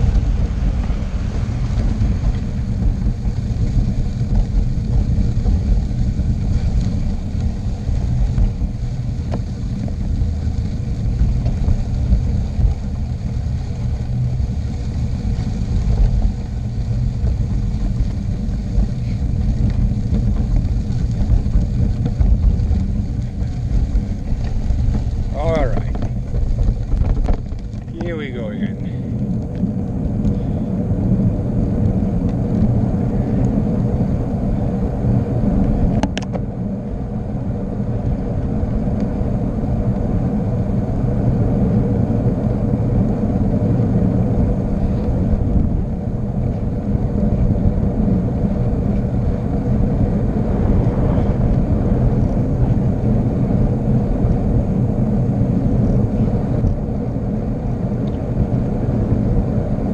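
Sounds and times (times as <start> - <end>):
wind and road noise rumble: 0.0 - 59.9.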